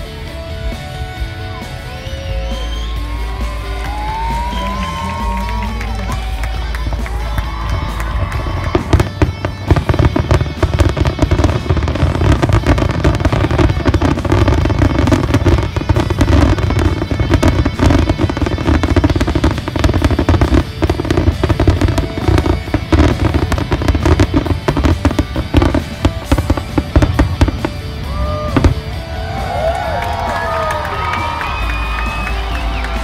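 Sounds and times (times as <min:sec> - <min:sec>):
fireworks bangs and crackling: 0:01.8 - 0:33.0.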